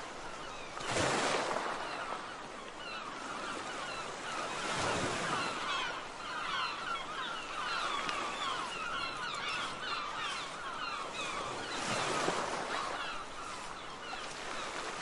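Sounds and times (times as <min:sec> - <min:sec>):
seagulls calling: 0:00.2 - 0:15.0.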